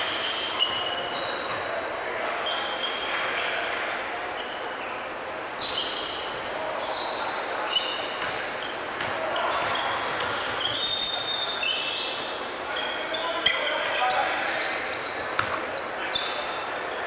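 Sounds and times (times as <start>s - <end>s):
sneakers squeaking on hardwood: 0.1s - 5.0s, 5.6s - 12.2s, 12.8s - 17.0s.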